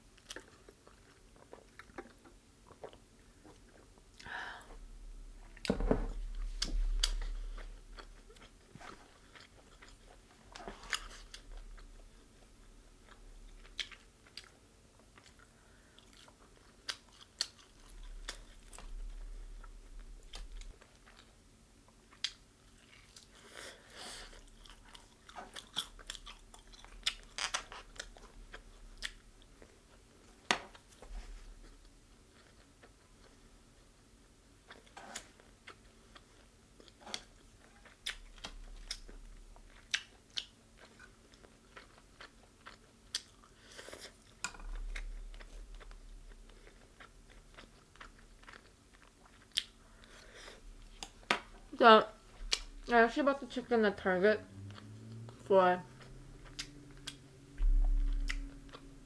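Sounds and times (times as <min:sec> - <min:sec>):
person chewing food: 0:00.2 - 0:04.4, 0:05.4 - 0:52.9, 0:54.5 - 0:59.0.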